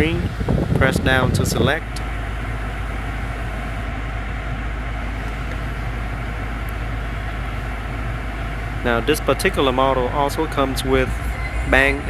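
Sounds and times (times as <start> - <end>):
car engine idling: 0.0 - 12.0
ventilation hiss: 0.0 - 12.0.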